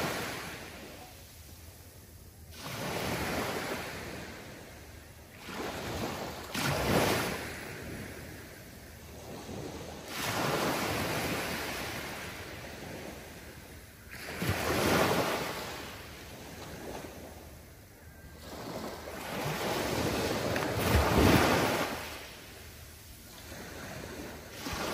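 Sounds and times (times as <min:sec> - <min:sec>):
small waves breaking on beach: 0:00.0 - 0:24.9.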